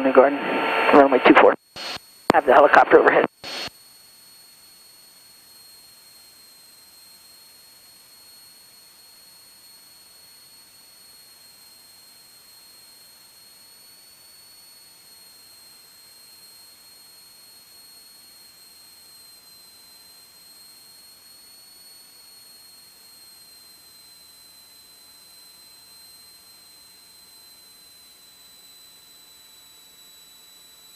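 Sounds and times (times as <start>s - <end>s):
high-pitched electronic whine: 0.0s - 30.9s.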